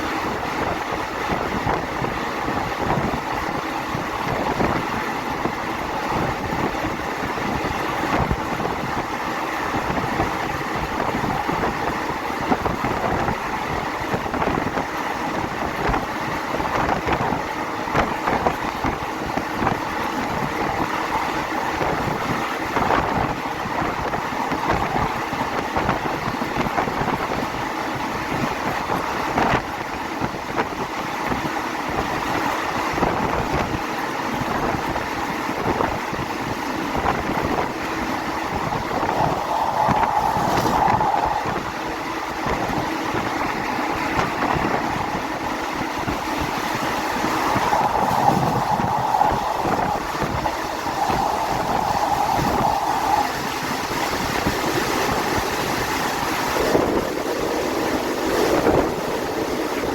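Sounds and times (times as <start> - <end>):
train carriage rumbling: 0.0 - 59.9
wind on microphone: 0.0 - 59.9.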